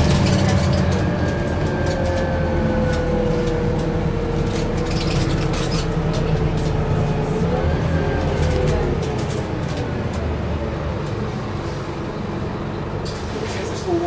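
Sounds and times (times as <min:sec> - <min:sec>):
bus engine rumble with whine: 0:00.0 - 0:14.0.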